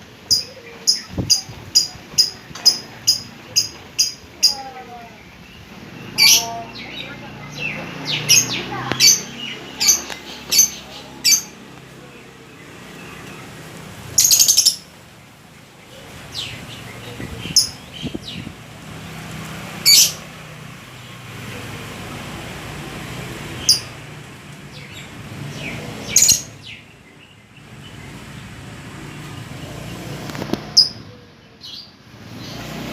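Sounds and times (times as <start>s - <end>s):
lovebird chirping: 0.0s - 18.6s, 19.8s - 20.3s, 23.6s - 24.0s, 24.7s - 32.7s.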